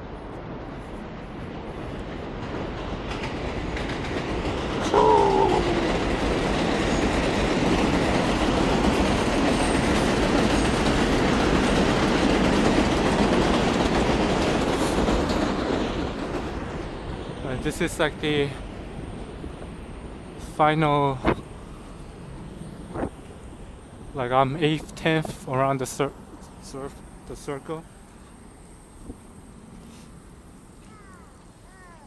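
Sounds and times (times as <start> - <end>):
train passing on rails: 0.0 - 32.0.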